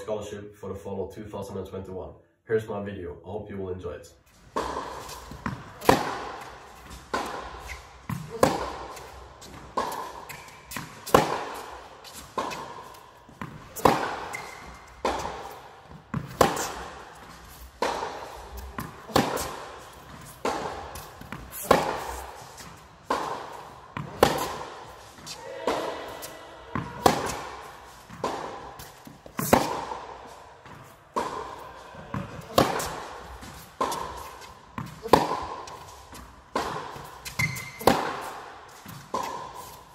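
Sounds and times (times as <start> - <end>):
tennis ball hit and bouncing: 4.5 - 39.9.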